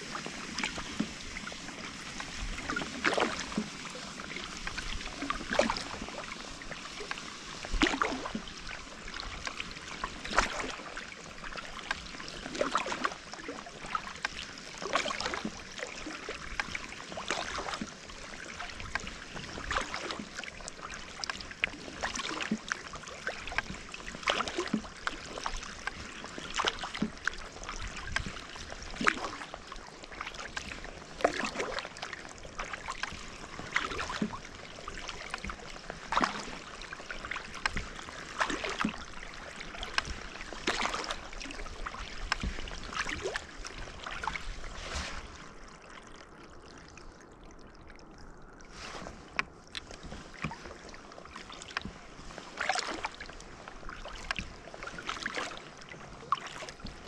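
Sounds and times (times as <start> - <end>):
paddle splashing in water: 0.0 - 47.1, 48.2 - 57.0.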